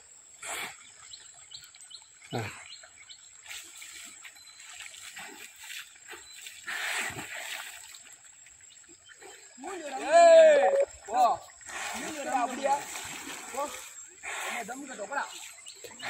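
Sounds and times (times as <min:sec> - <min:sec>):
water splashing and sloshing: 0:00.7 - 0:16.0.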